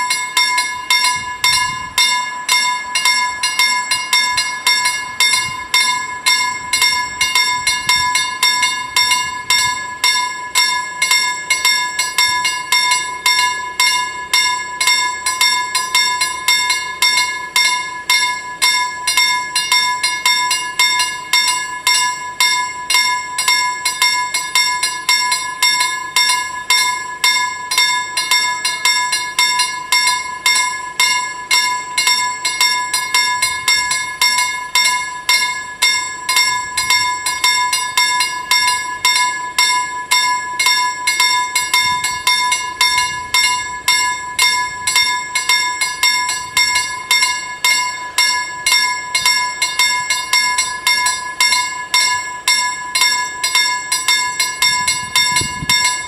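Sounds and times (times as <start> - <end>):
level-crossing warning bells ringing: 0.0 - 56.0.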